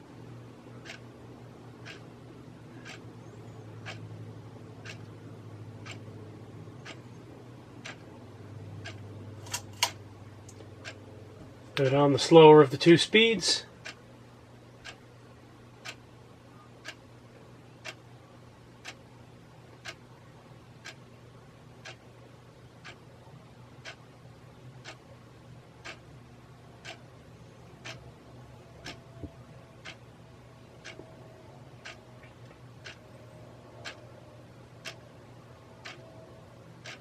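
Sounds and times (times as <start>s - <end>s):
ceiling fan motor hum: 0.0s - 37.0s
sharp ticking of fan: 0.0s - 37.0s.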